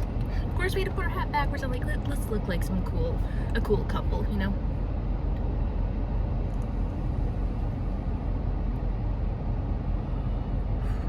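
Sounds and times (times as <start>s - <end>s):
air conditioning fan rushing: 0.0s - 11.0s
car engine low rumble: 0.0s - 11.0s.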